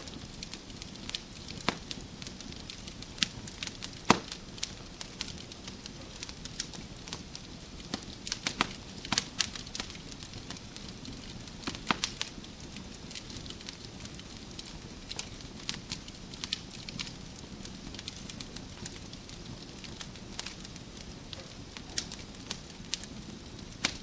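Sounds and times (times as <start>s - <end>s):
low rumble of burning logs: 0.0s - 24.0s
wood fire crackling and popping: 0.0s - 24.0s.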